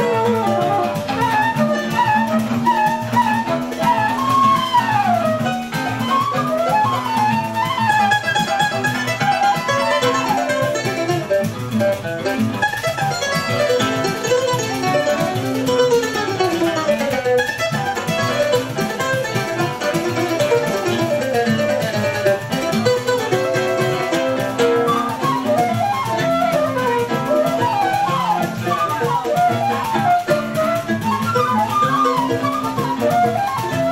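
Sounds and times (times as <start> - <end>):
acoustic guitar accompaniment: 0.0 - 33.9
mandolin fast melodic runs: 0.0 - 33.9.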